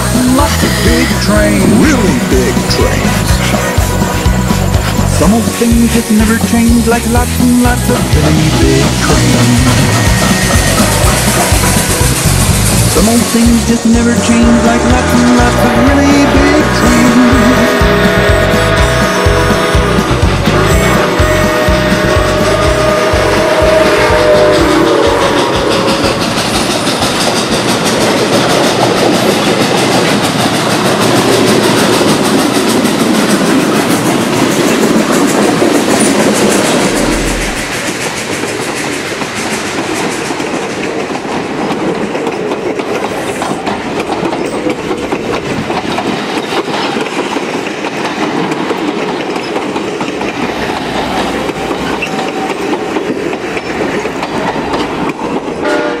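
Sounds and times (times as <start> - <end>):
steam locomotive passing: 0.0 - 56.0
train wheels clickety-clack: 0.0 - 56.0.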